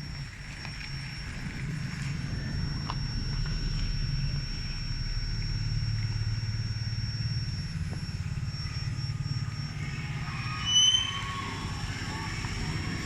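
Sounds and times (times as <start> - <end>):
high-pitched squeal: 0.0 - 13.0
locomotive low rumble: 0.0 - 13.0.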